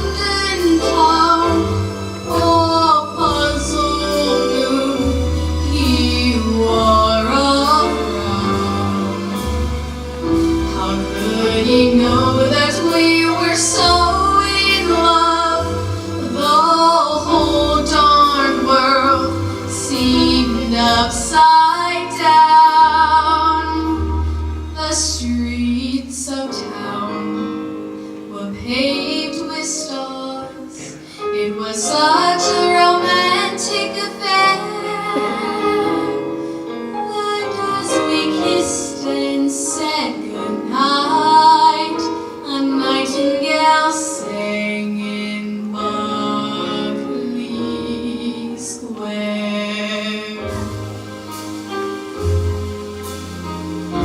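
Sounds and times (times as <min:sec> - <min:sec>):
woman singing a slow ballad: 0:00.0 - 0:51.0
instrumental accompaniment: 0:00.0 - 0:54.0.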